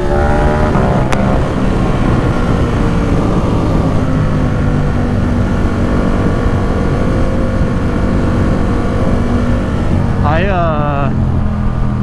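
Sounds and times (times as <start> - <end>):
motorcycle engine running: 0.0 - 12.0
wind rush: 0.0 - 12.0.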